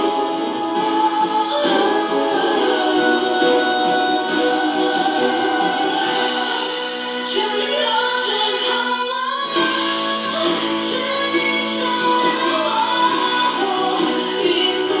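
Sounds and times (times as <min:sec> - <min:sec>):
pop song with female singer: 0:00.0 - 0:15.0.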